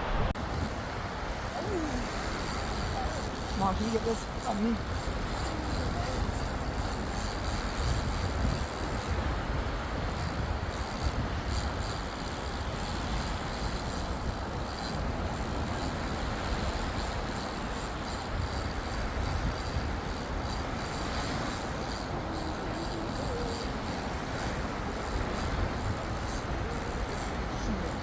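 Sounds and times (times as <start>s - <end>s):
wind: 0.0s - 28.0s
wind buffeting microphone: 0.0s - 28.0s.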